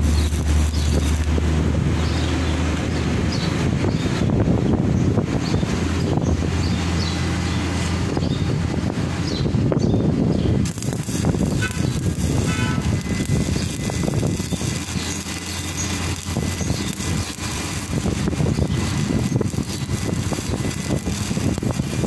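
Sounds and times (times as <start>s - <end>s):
steady low rumble: 0.0s - 22.0s
welding arc crackling and sizzling: 0.0s - 22.0s.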